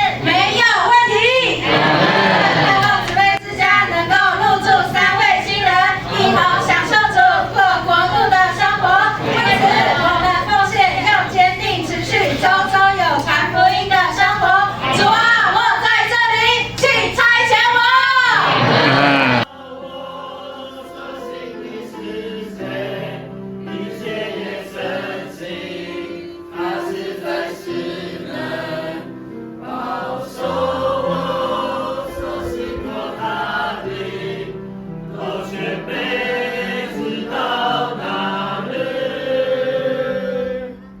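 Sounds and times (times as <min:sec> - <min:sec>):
choir singing: 0:00.0 - 0:16.6, 0:17.2 - 0:41.0.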